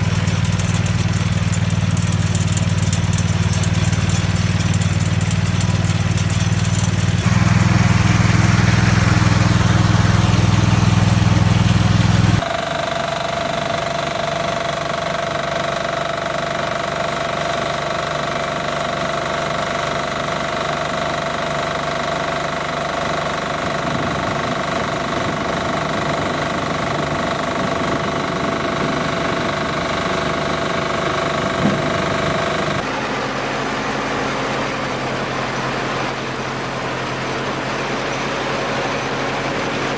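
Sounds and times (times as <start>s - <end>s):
hay baler humming with whine: 0.0s - 39.9s
tractor engine drone: 0.0s - 39.9s.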